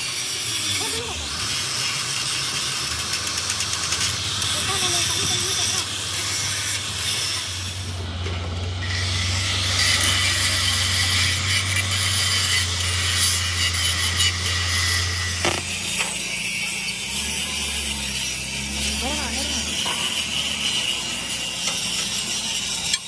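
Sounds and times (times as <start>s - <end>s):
angle grinder cutting steel: 0.0s - 23.0s.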